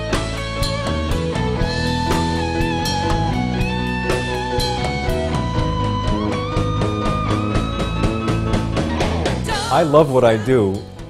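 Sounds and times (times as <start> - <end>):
electric guitar lead: 0.0 - 10.0
steady drum beat: 0.0 - 11.0.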